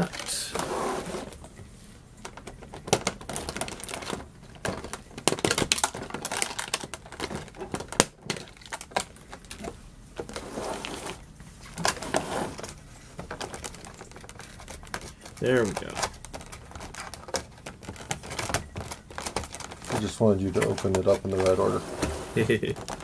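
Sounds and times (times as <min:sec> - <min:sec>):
plastic packaging crackling: 0:00.0 - 0:23.0.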